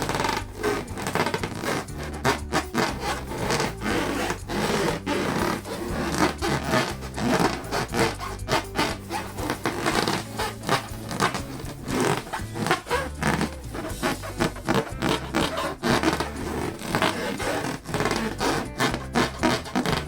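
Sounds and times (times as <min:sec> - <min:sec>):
background music with bass: 0:00.0 - 0:20.0
hands rubbing balloons: 0:00.0 - 0:20.0.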